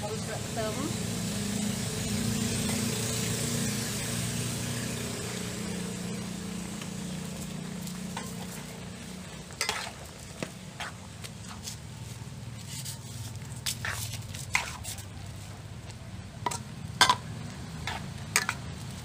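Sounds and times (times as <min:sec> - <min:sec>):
food sizzling in a wok: 0:00.0 - 0:19.0
spatula scraping a wok: 0:02.0 - 0:19.0.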